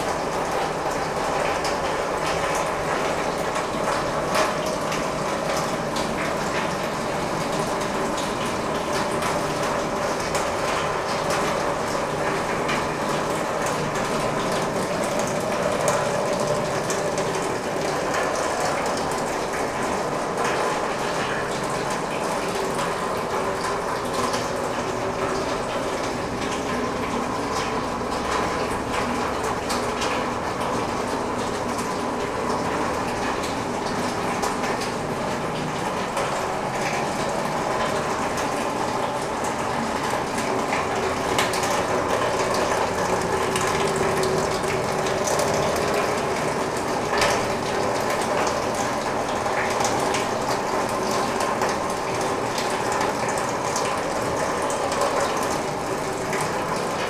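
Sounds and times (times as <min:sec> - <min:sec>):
water drumming on metal roof: 0:00.0 - 0:57.0.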